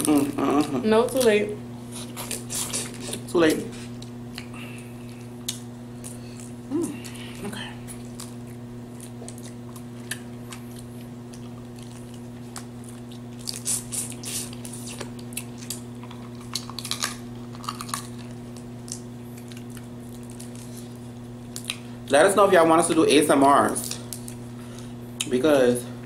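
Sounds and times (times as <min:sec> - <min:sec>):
sucking and chewing: 0:00.0 - 0:22.0
low electrical hum: 0:00.0 - 0:26.0.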